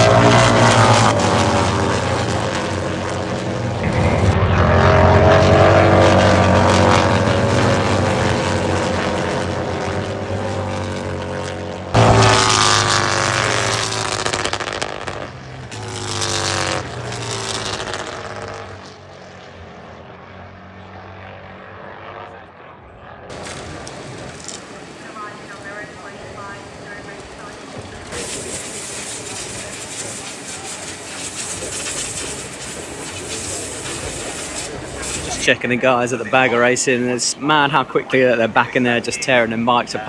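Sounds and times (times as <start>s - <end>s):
racing motorcycles passing: 0.0s - 40.0s.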